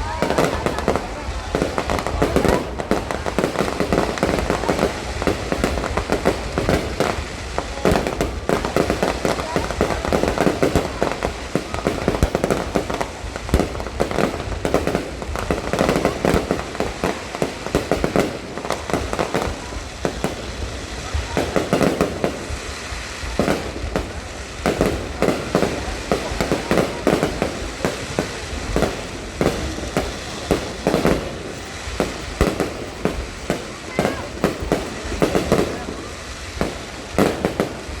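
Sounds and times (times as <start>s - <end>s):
fireworks and firecrackers banging: 0.0s - 38.0s.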